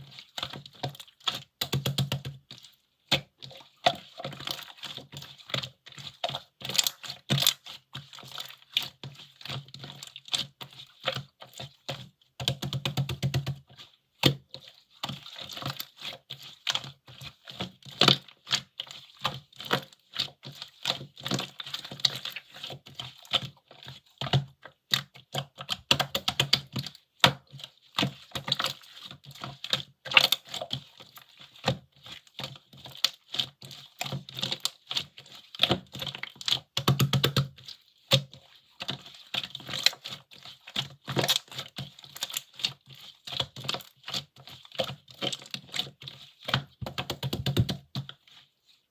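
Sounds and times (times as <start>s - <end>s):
slime squishing: 0.0s - 48.9s.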